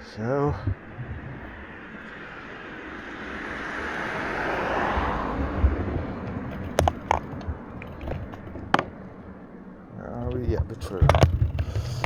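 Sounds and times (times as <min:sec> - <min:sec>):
wind on microphone: 0:00.0 - 0:09.4, 0:10.2 - 0:12.0
rushing noise: 0:00.0 - 0:09.7
low rumble: 0:00.5 - 0:12.0.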